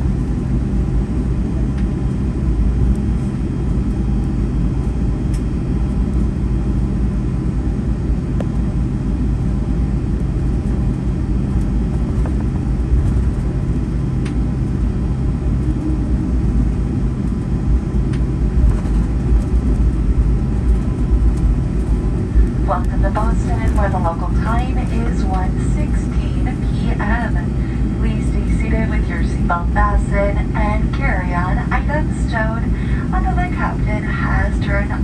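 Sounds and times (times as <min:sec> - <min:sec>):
airplane cabin low rumble: 0:00.0 - 0:35.0.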